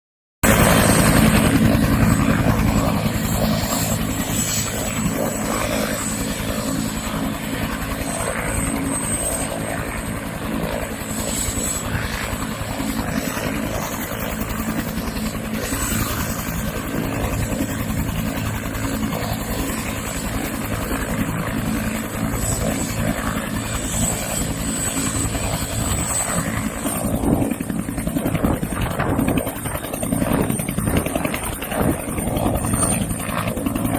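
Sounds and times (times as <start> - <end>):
helicopter rotor beating: 0.4 - 33.9
high turbine whine: 0.4 - 33.9.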